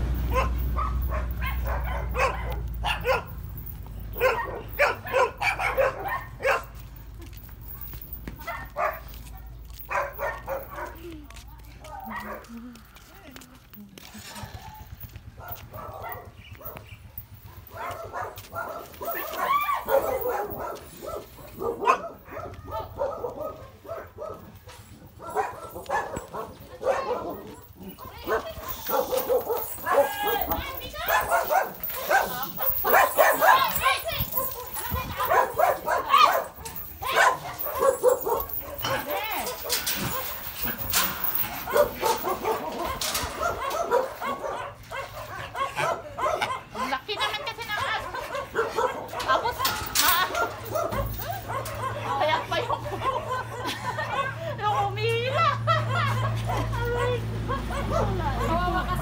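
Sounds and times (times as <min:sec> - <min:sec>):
dog barking: 0:00.2 - 0:06.8, 0:08.4 - 0:11.0, 0:11.8 - 0:12.5, 0:14.2 - 0:58.8.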